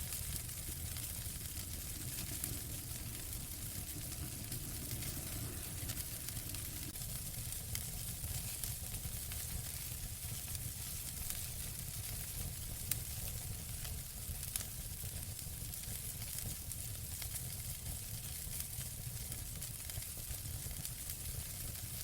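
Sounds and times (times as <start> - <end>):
fire popping: 0.0 - 22.0
wood fire crackling: 0.0 - 22.0.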